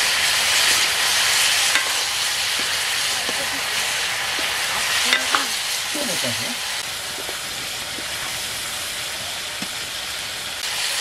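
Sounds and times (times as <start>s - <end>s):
chicken sizzling in a wok: 0.0s - 11.0s.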